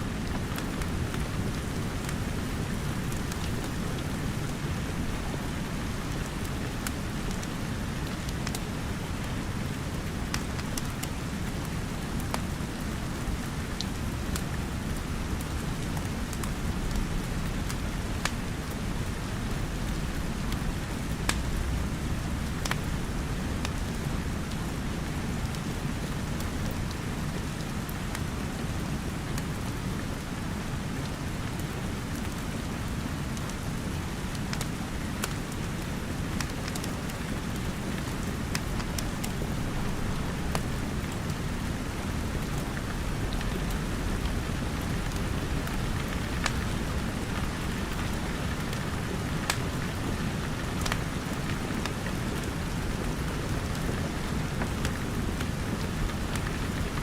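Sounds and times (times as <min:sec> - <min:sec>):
steady rain: 0:00.0 - 0:57.0
wood fire crackling: 0:00.1 - 0:28.6, 0:33.4 - 0:57.0.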